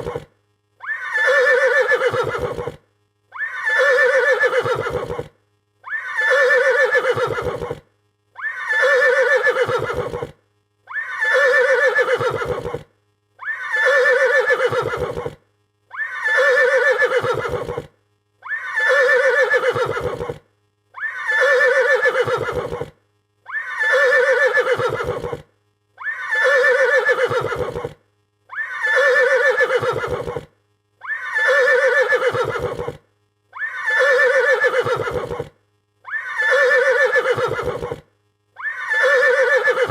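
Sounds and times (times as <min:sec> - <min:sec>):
horse neighing: 0:00.0 - 0:02.8, 0:03.4 - 0:05.3, 0:05.9 - 0:07.8, 0:08.4 - 0:10.3, 0:10.9 - 0:20.4, 0:21.0 - 0:22.9, 0:23.5 - 0:25.4, 0:26.0 - 0:33.0, 0:33.6 - 0:35.5, 0:36.1 - 0:38.0, 0:38.6 - 0:39.9.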